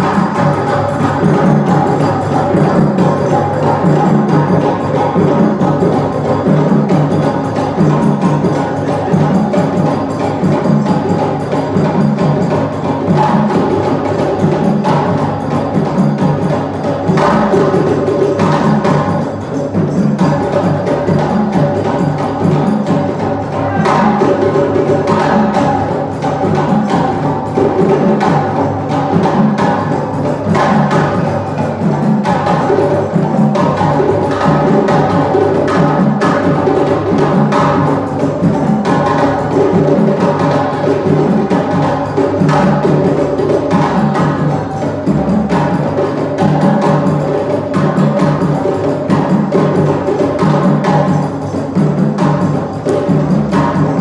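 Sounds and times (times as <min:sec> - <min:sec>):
drums playing driving rhythm: 0:00.0 - 0:54.0.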